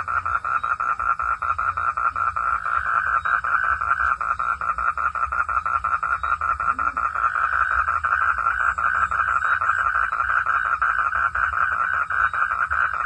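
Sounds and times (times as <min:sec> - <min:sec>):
frog calling in rapid pulses: 0:00.0 - 0:13.0.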